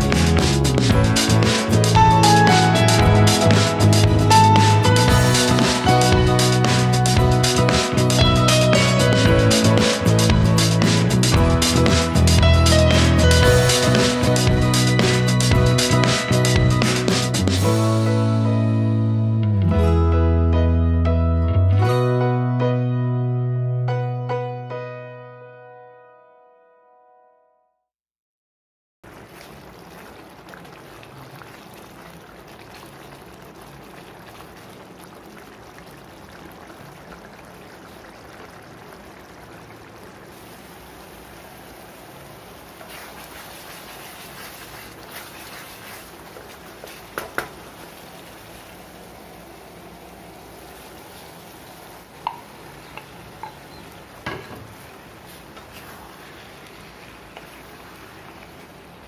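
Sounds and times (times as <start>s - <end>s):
gravy sizzling and bubbling: 0.0s - 18.2s, 29.0s - 59.0s.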